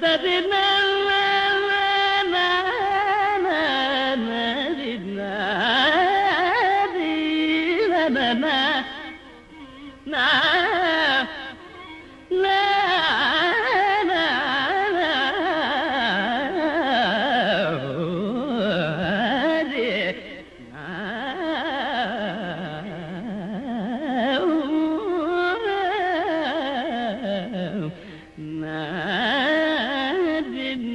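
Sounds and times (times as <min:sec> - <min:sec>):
wordless vocal melody with ornaments: 0:00.0 - 0:30.9.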